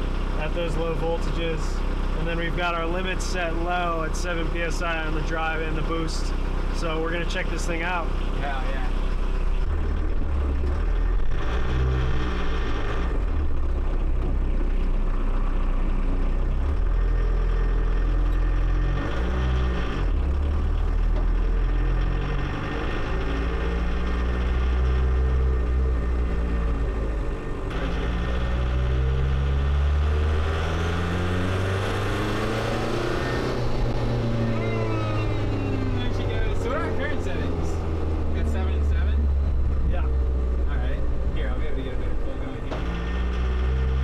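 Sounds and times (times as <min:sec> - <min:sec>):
car engine from inside cabin: 0:00.0 - 0:44.0.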